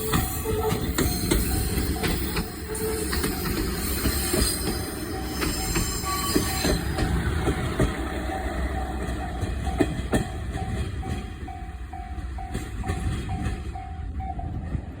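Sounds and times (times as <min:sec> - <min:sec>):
level crossing alarm ringing: 0:00.0 - 0:14.6
train wheels clicking over rail joints: 0:00.0 - 0:14.9
diesel railcar rumbling past: 0:00.0 - 0:15.0.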